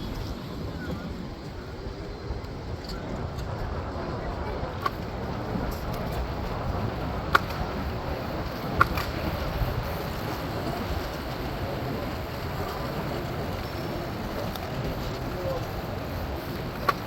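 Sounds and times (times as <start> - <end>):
low wind rumble: 0.0 - 17.0
street traffic noise: 0.0 - 17.0.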